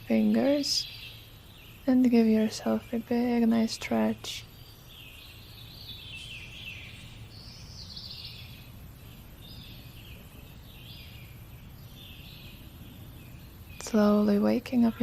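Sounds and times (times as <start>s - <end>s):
bird chirping: 0.0s - 15.0s
low background rumble: 0.0s - 15.0s.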